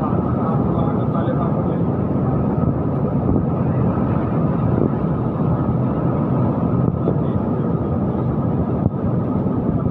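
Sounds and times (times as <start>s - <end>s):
loud mechanical drone: 0.0s - 9.9s.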